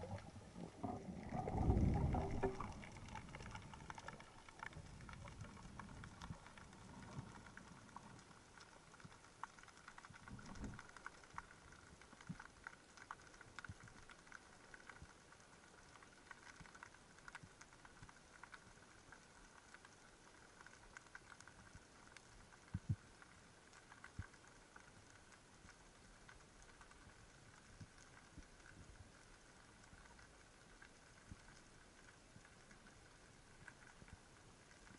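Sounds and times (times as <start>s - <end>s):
faint underwater crackle: 0.0s - 34.9s.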